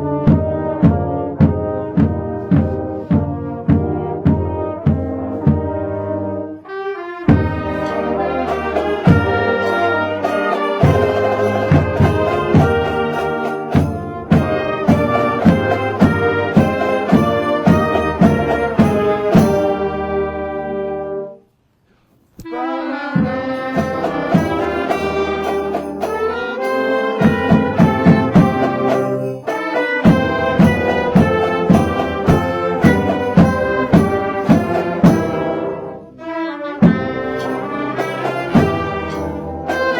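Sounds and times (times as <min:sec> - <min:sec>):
steady drum beat: 0:00.0 - 0:06.0, 0:07.3 - 0:20.0, 0:23.2 - 0:35.9, 0:36.8 - 0:39.9
marching band playing: 0:00.0 - 0:21.3, 0:22.4 - 0:39.9.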